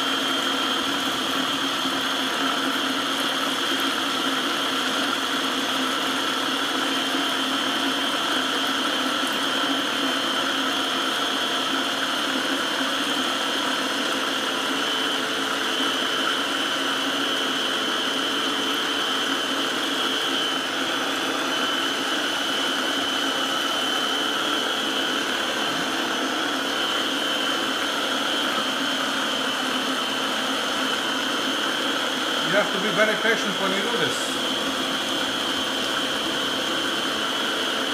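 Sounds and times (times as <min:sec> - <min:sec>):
food processor motor hum and whine: 0:00.0 - 0:37.9.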